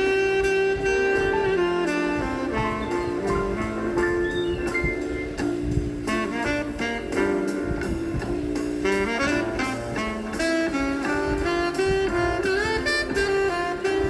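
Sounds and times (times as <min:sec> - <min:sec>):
instrumental jazz music: 0:00.0 - 0:14.0.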